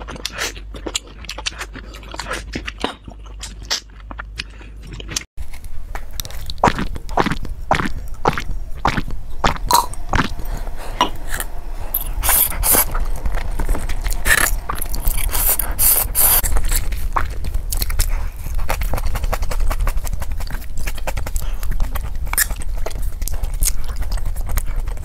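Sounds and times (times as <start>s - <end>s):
chewing and crunching food: 0.0s - 25.0s.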